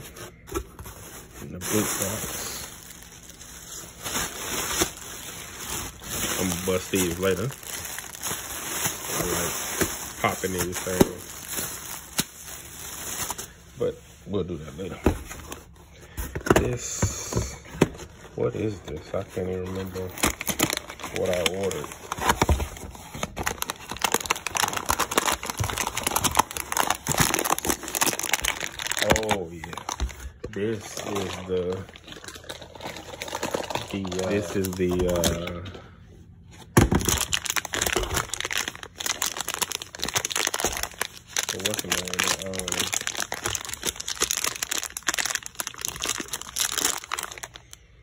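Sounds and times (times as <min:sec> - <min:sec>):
plastic bag crinkling: 0:00.0 - 0:15.8, 0:18.0 - 0:35.6, 0:36.7 - 0:47.8
packing material rustling: 0:00.0 - 0:35.6, 0:36.6 - 0:47.8.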